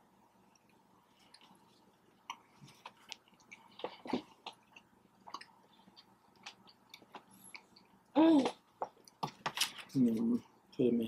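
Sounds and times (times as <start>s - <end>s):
person chewing: 0.4s - 9.8s.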